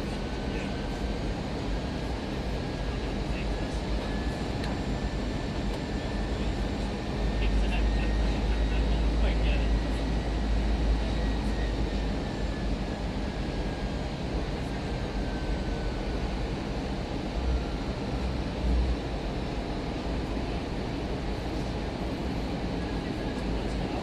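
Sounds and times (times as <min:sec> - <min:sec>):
aircraft cabin engine rumble: 0:00.0 - 0:24.0.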